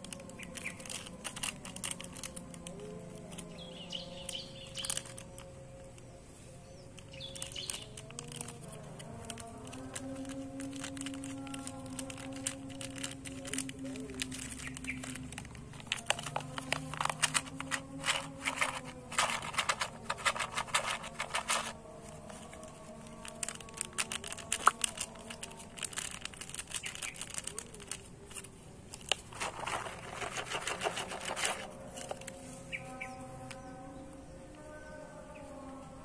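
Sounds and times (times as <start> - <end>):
seed packet crinkling: 0.0 - 6.1, 6.9 - 33.6
faint steady hum: 0.0 - 36.0.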